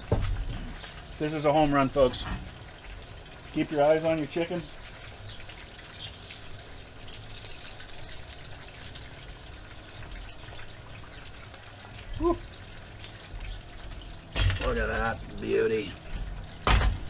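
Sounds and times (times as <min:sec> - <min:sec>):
oil bubbling and sizzling: 0:00.0 - 0:17.0.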